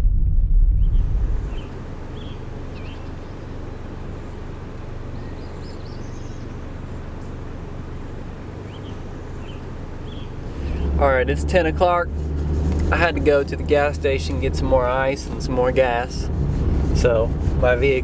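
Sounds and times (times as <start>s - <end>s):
steady low hum: 0.0s - 18.0s
birds chirping: 1.3s - 18.0s.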